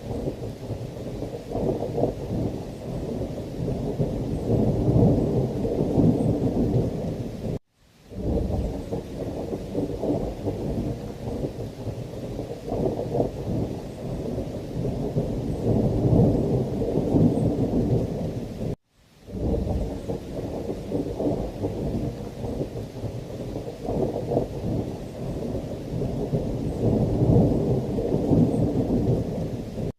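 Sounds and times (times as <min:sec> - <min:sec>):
heavy rain: 0:00.0 - 0:29.9
thunder rumbling: 0:00.0 - 0:29.9.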